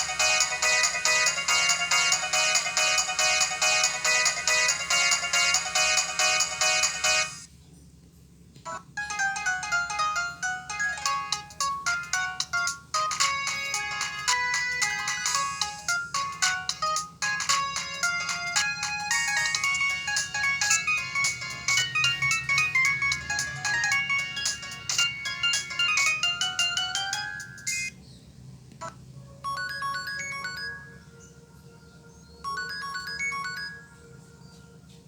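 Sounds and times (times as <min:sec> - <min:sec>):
electronic ringtone melody: 0:00.0 - 0:07.5, 0:08.7 - 0:27.9, 0:28.8 - 0:31.2, 0:32.4 - 0:34.2.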